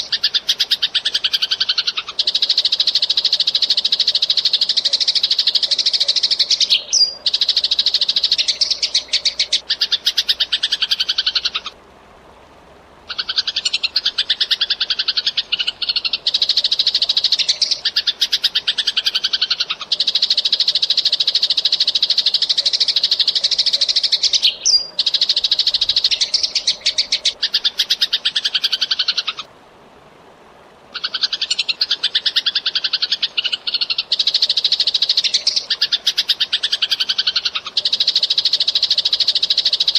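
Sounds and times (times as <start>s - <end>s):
sparrow chirping: 0.0s - 11.7s, 13.2s - 29.4s, 31.0s - 39.9s.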